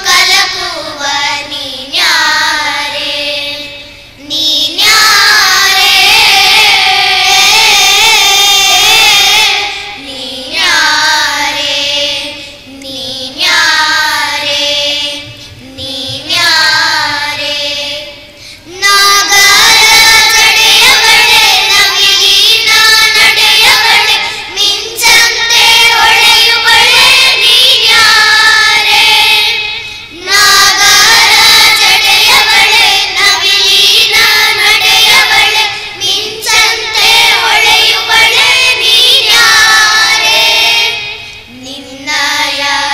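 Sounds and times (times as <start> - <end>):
children singing in unison: 0.0 - 42.9.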